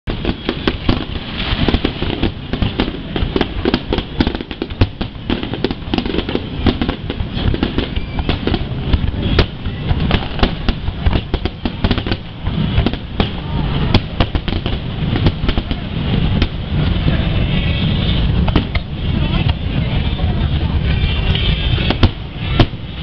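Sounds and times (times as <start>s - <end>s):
firework bangs: 0.0s - 23.0s.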